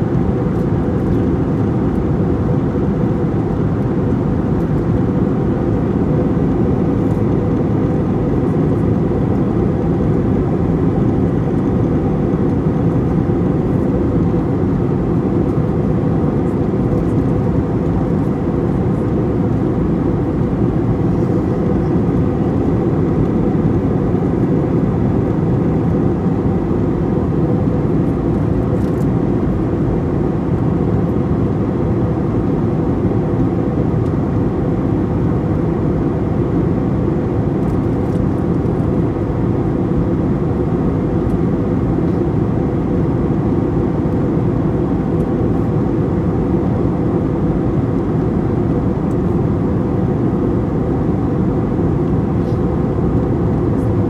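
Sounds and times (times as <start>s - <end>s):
airliner engine drone: 0.0s - 54.0s.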